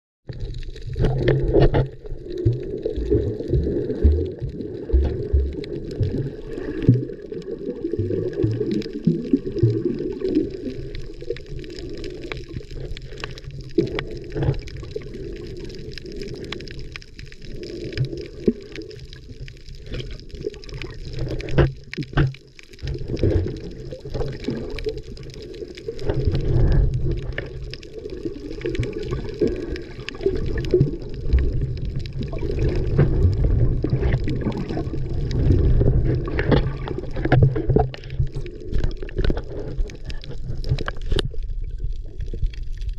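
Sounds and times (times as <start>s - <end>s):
low rumble of moving water: 0.2s - 42.9s
muffled underwater water sloshing: 0.3s - 42.9s.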